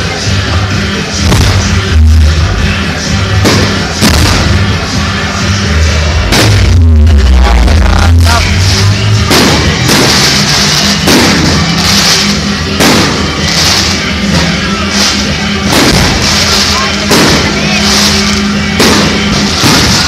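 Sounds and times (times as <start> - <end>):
fireworks bursting: 0.0 - 20.0
loud music with steady bass: 0.0 - 20.0.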